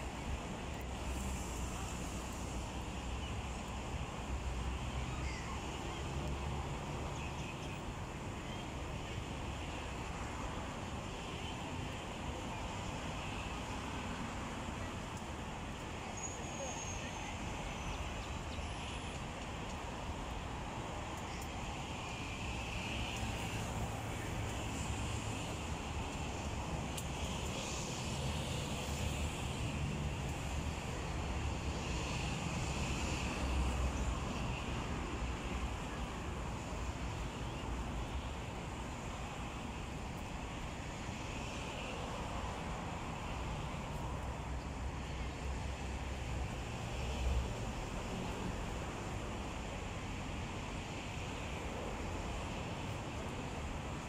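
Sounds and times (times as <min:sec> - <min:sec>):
steady outdoor hiss: 0:00.0 - 0:54.0.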